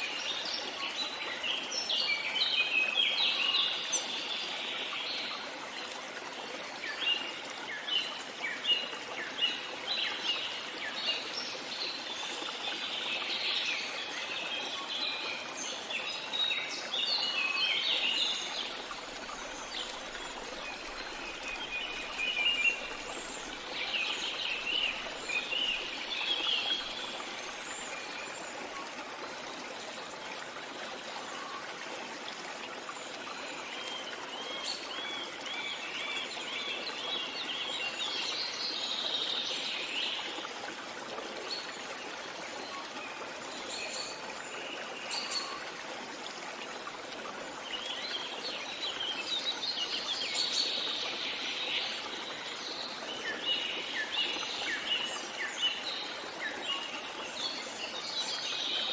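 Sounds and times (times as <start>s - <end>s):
songbirds chirping and twittering: 0.0s - 45.7s, 47.4s - 58.9s
trickling stream: 0.0s - 58.9s.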